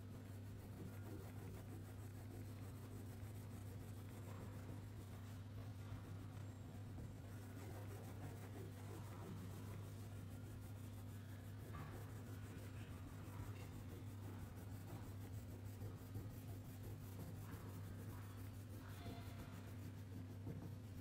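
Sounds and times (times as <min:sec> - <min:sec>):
colouring tool scratching on paper: 0:00.0 - 0:21.0
steady low hum: 0:00.0 - 0:21.0.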